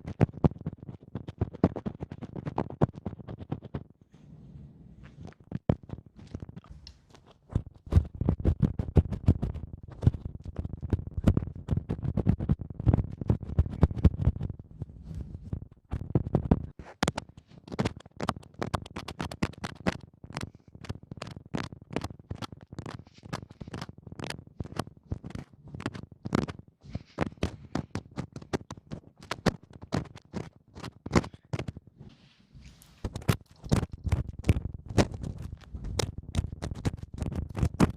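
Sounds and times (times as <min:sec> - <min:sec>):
scratching and rubbing at microphone: 0:00.0 - 0:37.9.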